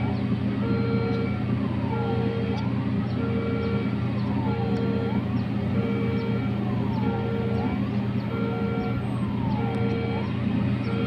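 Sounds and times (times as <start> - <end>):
ship diesel engine drone: 0.0 - 11.0.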